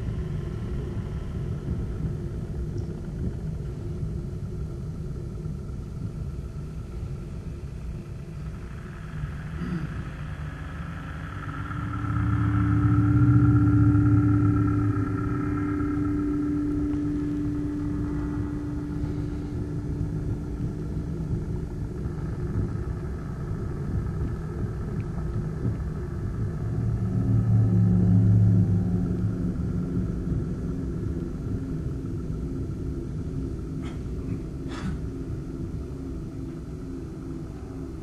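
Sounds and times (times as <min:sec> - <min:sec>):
low continuous rumbling: 0:00.0 - 0:38.0
steady hum: 0:00.0 - 0:38.0.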